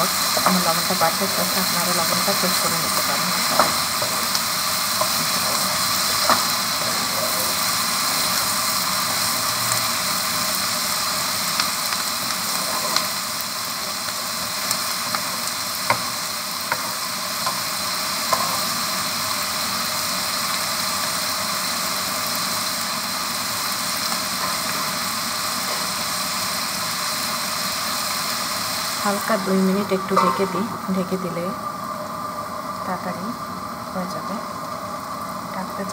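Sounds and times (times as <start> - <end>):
food sizzling in a frying pan: 0.0 - 35.9.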